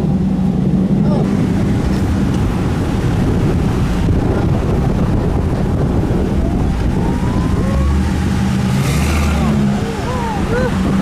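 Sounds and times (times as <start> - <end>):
engine and road noise rumble: 0.0 - 11.0
wind buffeting microphone: 0.0 - 11.0.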